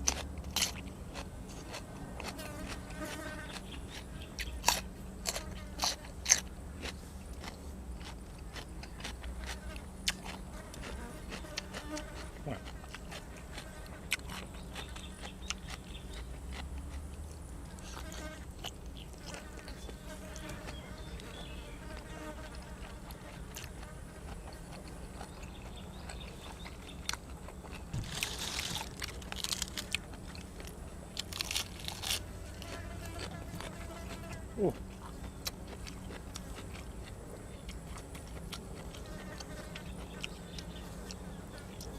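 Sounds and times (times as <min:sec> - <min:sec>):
chewing and crunching food: 0:00.0 - 0:41.9.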